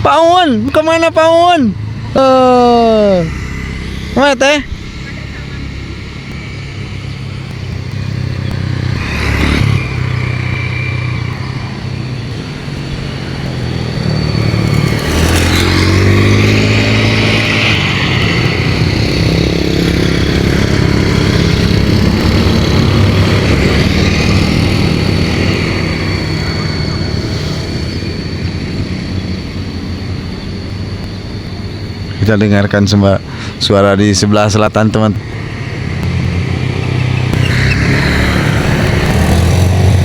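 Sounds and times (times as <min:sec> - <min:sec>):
road traffic passing: 0:00.0 - 0:40.0
vehicle accelerating: 0:00.8 - 0:32.8, 0:34.0 - 0:40.0.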